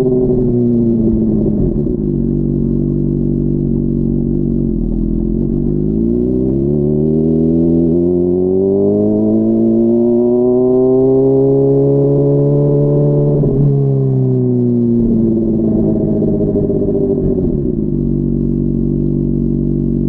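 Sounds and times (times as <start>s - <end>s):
motorcycle engine: 0.0s - 20.0s.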